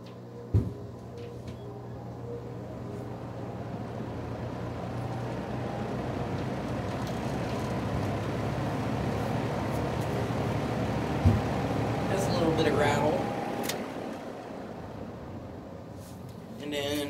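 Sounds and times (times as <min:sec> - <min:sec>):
box fan motor hum: 0:00.0 - 0:17.0
rush of air from fan: 0:02.9 - 0:16.6.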